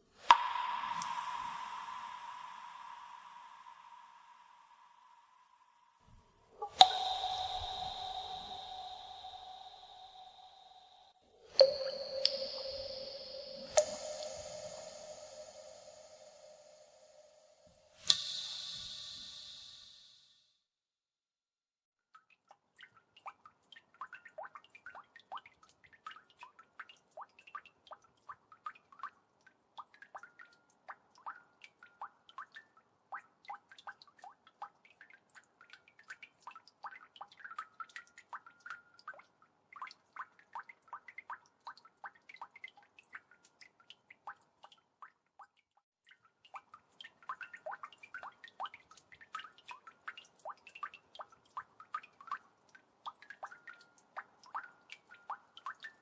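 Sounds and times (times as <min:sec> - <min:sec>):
water droplets dripping: 0:00.0 - 0:05.8, 0:06.5 - 0:20.1, 0:22.1 - 0:56.0.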